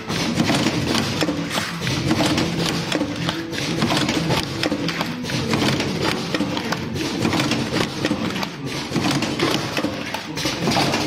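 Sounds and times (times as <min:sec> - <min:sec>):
machine clattering clicks: 0:00.0 - 0:11.0.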